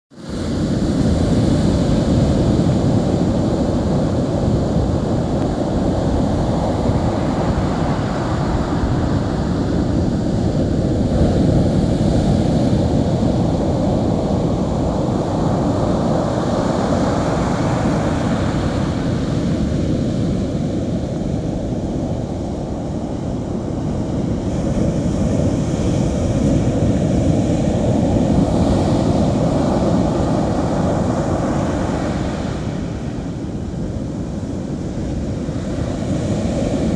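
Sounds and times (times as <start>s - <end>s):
surf breaking on beach: 0.2s - 36.9s
wind buffeting microphone: 0.2s - 36.9s.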